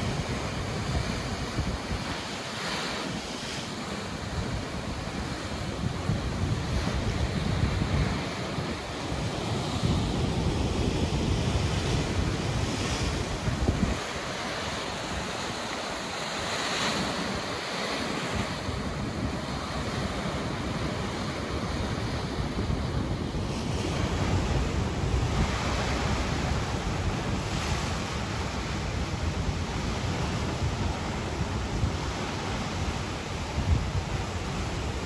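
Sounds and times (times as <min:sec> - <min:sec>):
wind buffeting microphone: 0:00.0 - 0:02.4, 0:03.0 - 0:35.0
ocean surf washing on beach: 0:00.0 - 0:35.0.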